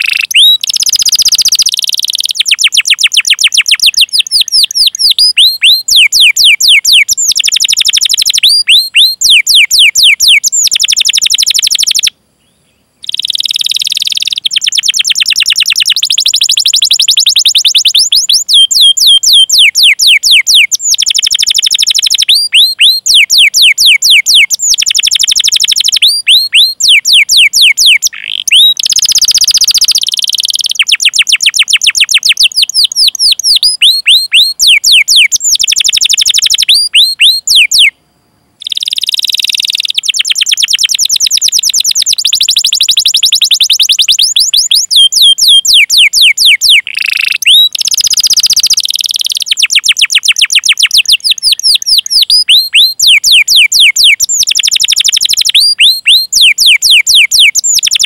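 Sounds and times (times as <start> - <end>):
canary singing trills: 0.0 - 38.0, 38.6 - 58.0.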